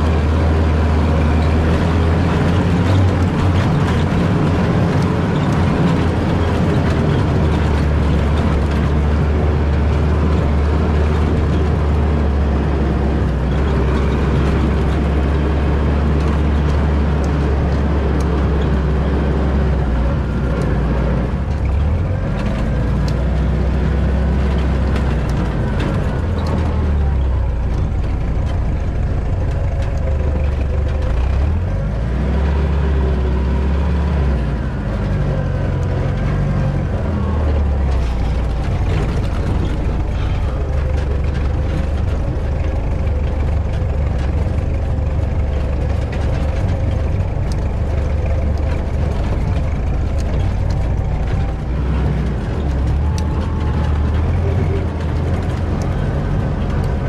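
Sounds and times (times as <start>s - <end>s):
car engine running while driving: 0.0s - 57.0s.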